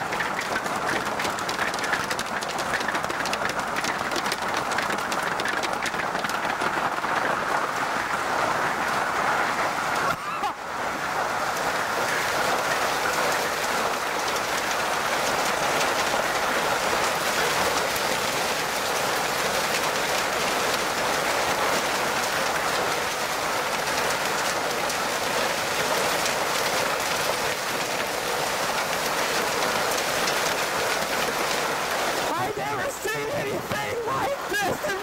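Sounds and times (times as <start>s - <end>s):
hail and rain pelting concrete: 0.0s - 35.0s.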